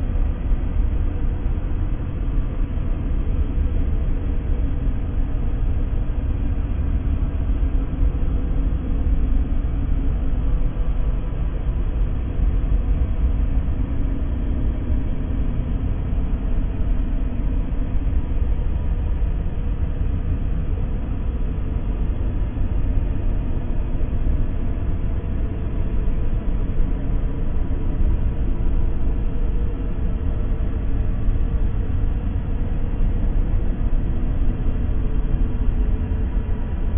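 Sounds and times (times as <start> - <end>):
deep rumble: 0.0 - 36.9.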